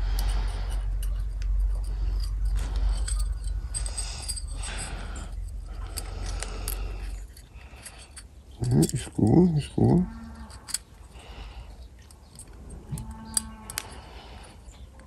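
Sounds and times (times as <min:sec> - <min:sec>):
metal clicks and scrapes: 0:00.0 - 0:11.2, 0:12.0 - 0:15.0
low steady hum: 0:00.0 - 0:15.0.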